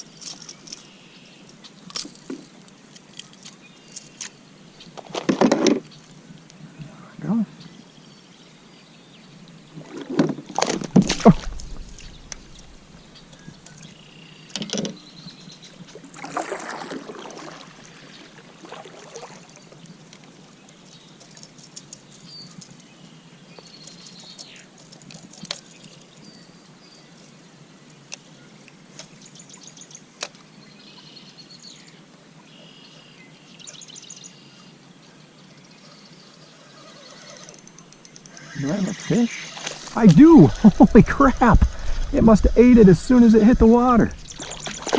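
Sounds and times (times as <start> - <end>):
birds singing and chirping: 0.0 - 5.0, 5.7 - 15.9, 19.6 - 44.9.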